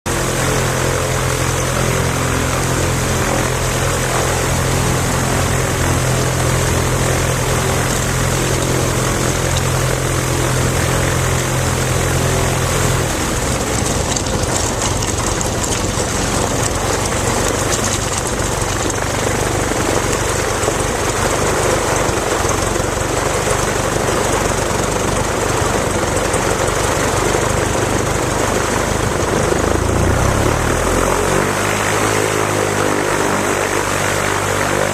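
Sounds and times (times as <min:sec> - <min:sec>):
small plane engine and propeller: 0:00.0 - 0:34.9.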